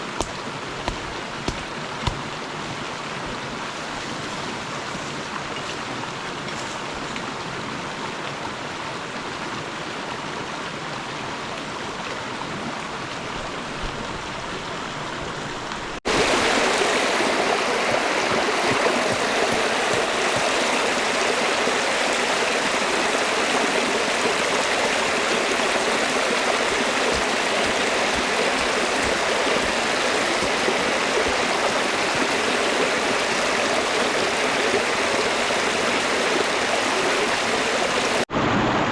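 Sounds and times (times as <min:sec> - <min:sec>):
river water rushing: 0:07.3 - 0:38.8.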